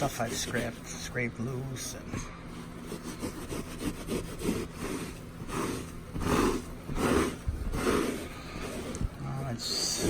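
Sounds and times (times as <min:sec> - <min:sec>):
wet rag rubbing on cushion: 0:00.0 - 0:10.0.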